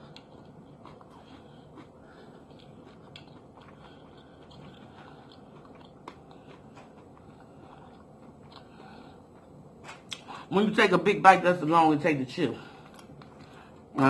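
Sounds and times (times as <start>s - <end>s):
chewing food: 0.0s - 10.5s, 12.6s - 14.0s.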